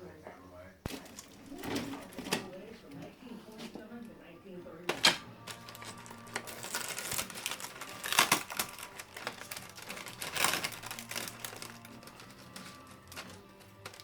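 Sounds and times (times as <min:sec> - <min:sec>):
scraping and rustling: 0:00.9 - 0:04.0, 0:04.9 - 0:14.0.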